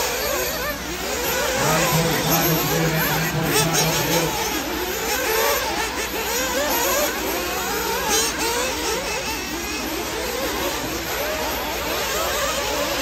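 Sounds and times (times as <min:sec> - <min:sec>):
rc buggy motors revving: 0:00.0 - 0:13.0.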